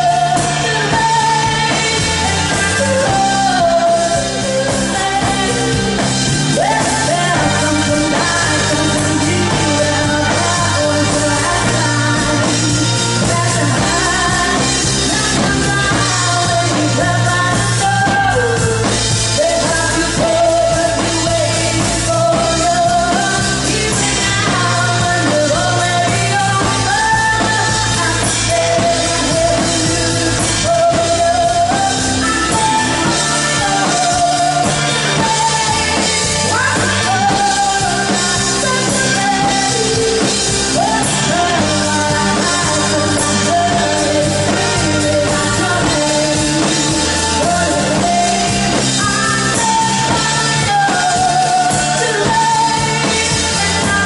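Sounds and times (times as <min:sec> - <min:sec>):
band playing pop-rock: 0:00.0 - 0:54.0
lead singer singing: 0:00.0 - 0:54.0
steady bass line: 0:00.0 - 0:54.0.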